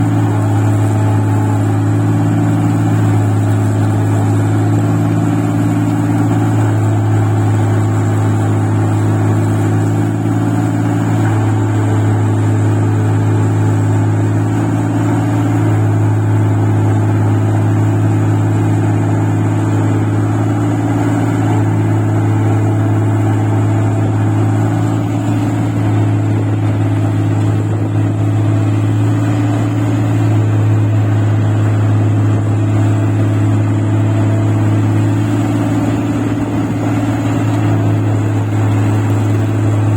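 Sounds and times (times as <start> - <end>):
farm machine engine droning: 0.0 - 39.9.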